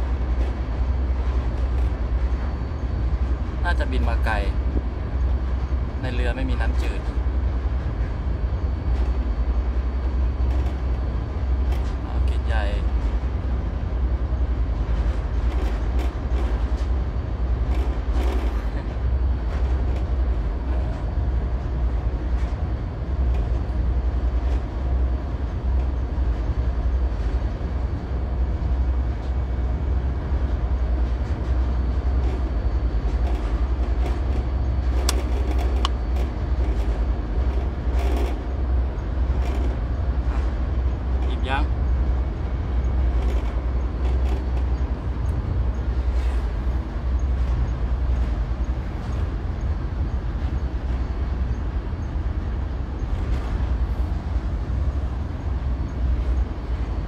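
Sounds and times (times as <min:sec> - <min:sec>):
ship engine rumble: 0:00.0 - 0:57.0.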